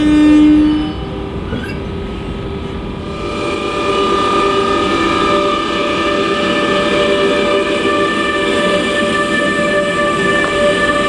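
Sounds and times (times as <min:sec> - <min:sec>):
locomotive traction whine: 0:00.0 - 0:11.0
train wheels rumbling on rail: 0:00.0 - 0:11.0.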